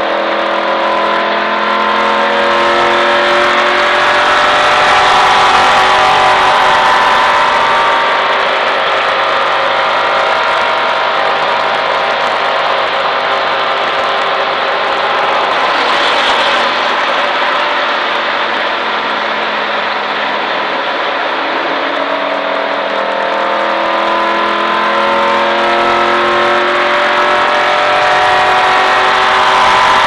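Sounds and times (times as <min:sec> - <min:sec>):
race car engine: 0:00.0 - 0:30.0.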